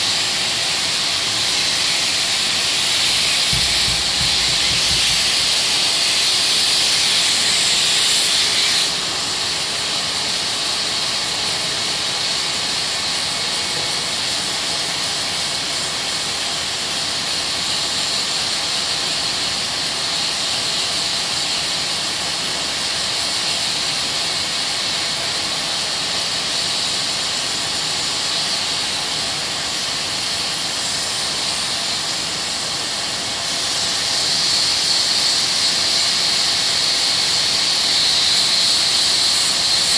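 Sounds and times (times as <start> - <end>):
sandpaper sanding hiss: 0.0 - 39.9.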